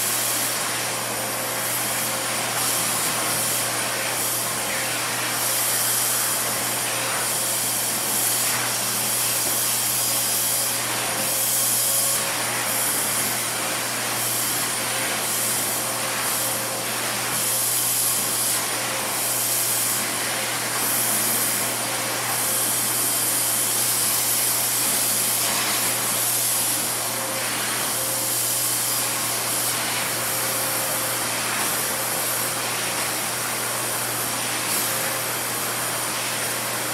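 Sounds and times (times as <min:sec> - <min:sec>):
vacuum airflow hiss: 0:00.0 - 0:36.9
vacuum cleaner motor hum: 0:00.0 - 0:36.9.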